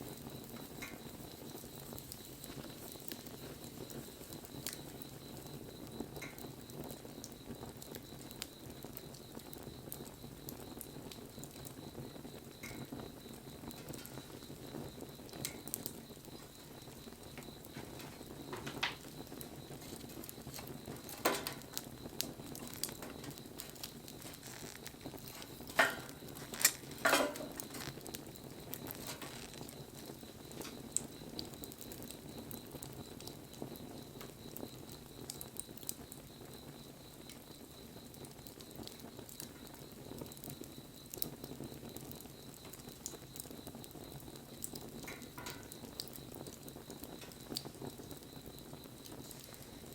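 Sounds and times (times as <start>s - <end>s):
bonfire crackling: 0.0s - 49.9s
sharp pops of fire: 0.0s - 49.9s.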